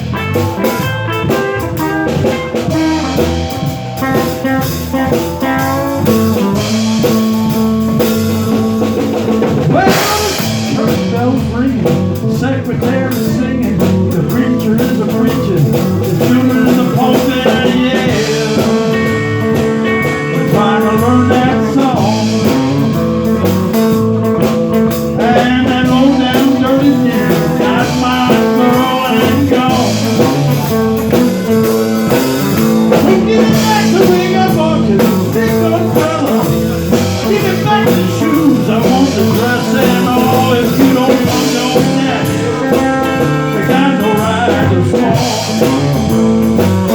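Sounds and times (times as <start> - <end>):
bass and drums: 0.0 - 46.9
blues guitar with bending notes: 0.0 - 46.9.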